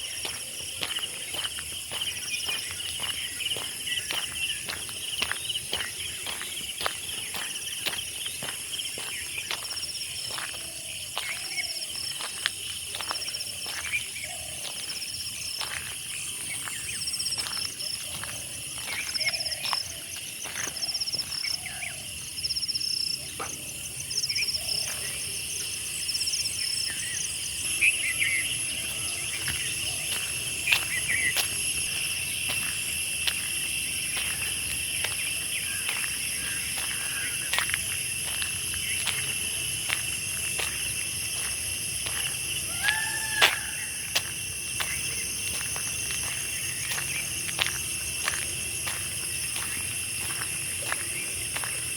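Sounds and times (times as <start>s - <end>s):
crickets trilling: 0.0s - 51.9s
insect chirping in pulses: 0.0s - 51.9s.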